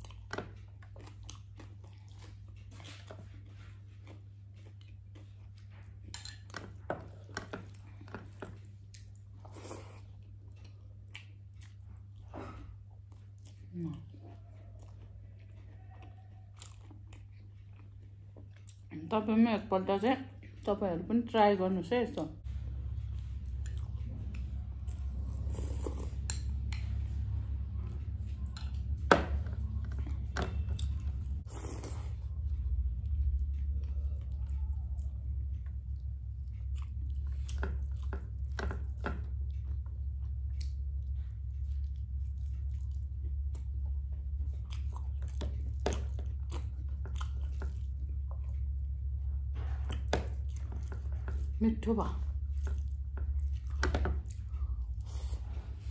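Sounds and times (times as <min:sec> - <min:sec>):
low hum: 0:00.0 - 0:55.9.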